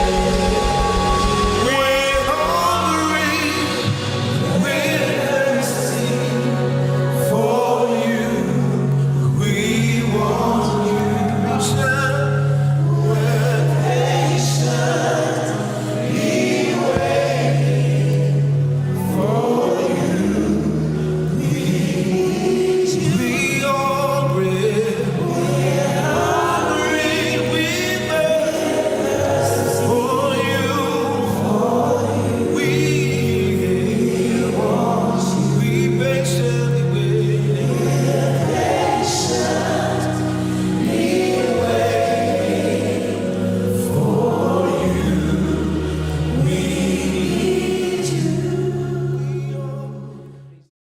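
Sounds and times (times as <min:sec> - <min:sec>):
choir singing: 0:00.0 - 0:50.7
low held keyboard notes: 0:00.0 - 0:50.7.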